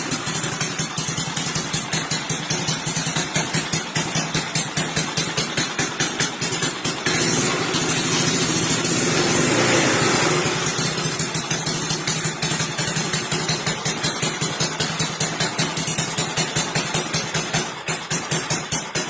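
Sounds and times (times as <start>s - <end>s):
scooter engine revving and idling: 0.0s - 19.0s.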